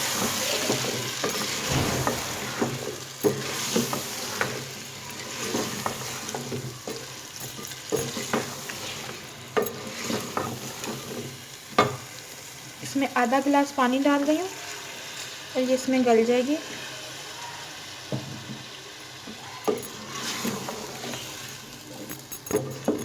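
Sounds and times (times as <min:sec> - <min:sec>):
food sizzling in oil: 0:00.0 - 0:21.9.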